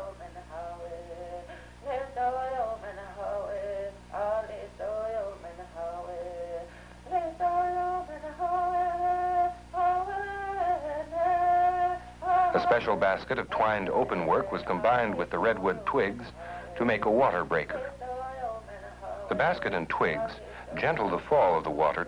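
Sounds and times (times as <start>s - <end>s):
person singing slow melody: 0.0s - 22.0s.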